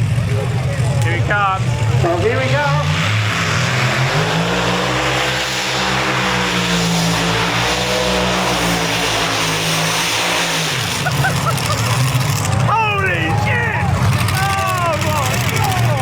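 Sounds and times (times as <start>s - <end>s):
tractor engine whining at full power: 0.0s - 16.0s.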